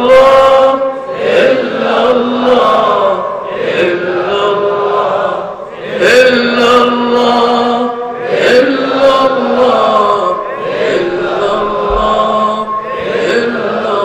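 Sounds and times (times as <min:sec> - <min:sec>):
man chanting: 0:00.0 - 0:05.1, 0:05.8 - 0:14.0.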